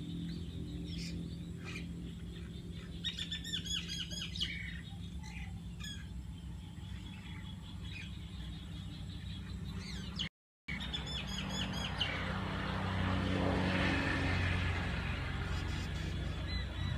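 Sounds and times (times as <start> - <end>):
birds chirping: 0.0 - 13.1, 14.2 - 16.9.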